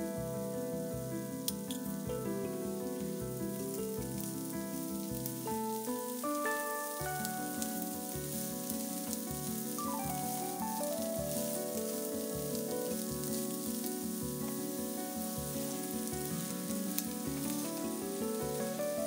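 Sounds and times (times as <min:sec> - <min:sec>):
background music with steady beat: 0:00.0 - 0:19.0
potatoes sizzling in oil: 0:00.0 - 0:19.0
spatula turning food in pan: 0:01.4 - 0:19.0.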